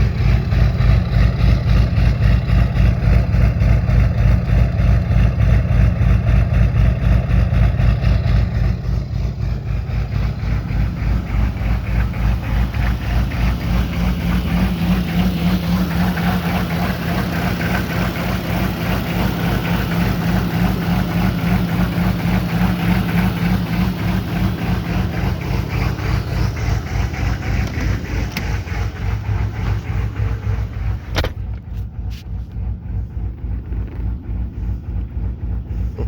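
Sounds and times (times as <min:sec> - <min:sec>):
diesel engine loping: 0:00.0 - 0:36.0.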